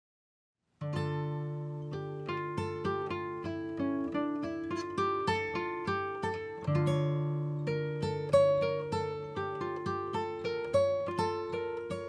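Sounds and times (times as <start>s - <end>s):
acoustic guitar picking notes: 0.8s - 12.0s.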